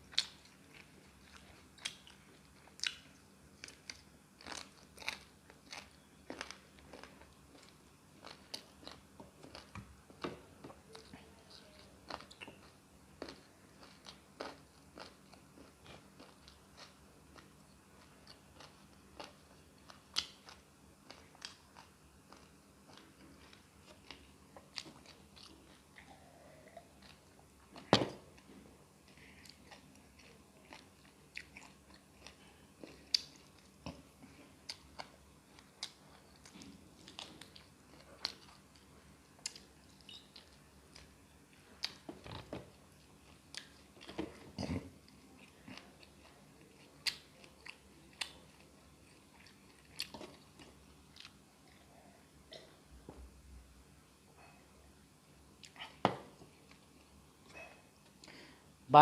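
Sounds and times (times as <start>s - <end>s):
person chewing food: 0.0s - 53.3s, 55.4s - 58.6s.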